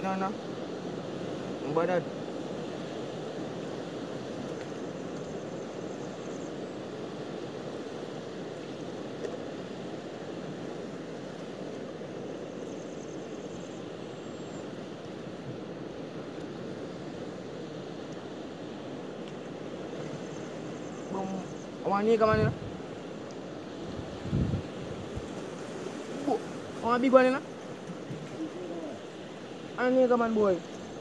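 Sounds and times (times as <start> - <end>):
sea surf on rocky shore: 0.0 - 31.0
wind: 0.0 - 31.0.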